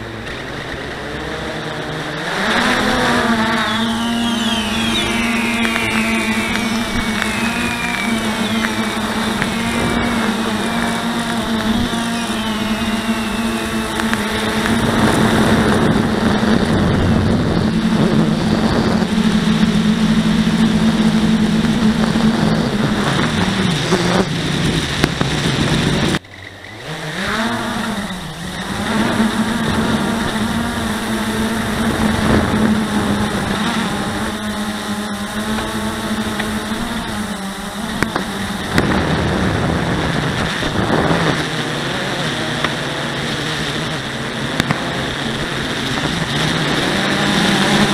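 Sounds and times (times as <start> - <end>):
quadcopter propellers buzzing: 0.0 - 47.9.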